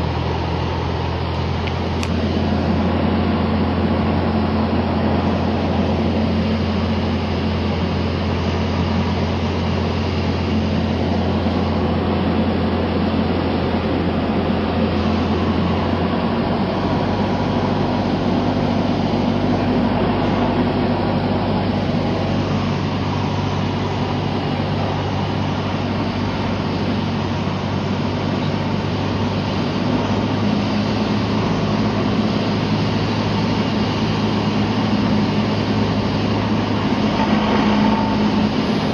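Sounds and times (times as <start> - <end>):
airplane engine and propeller drone: 0.0 - 38.9
low hum: 0.0 - 38.9.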